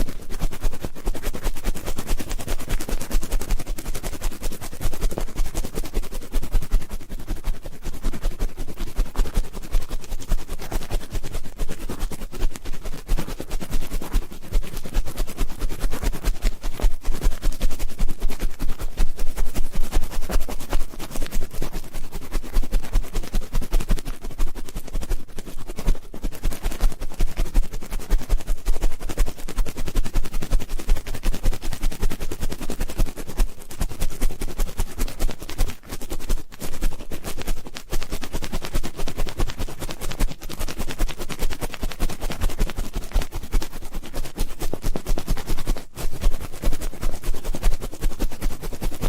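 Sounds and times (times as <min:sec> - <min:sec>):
ear pick scratching on microphone: 0:00.0 - 0:49.0.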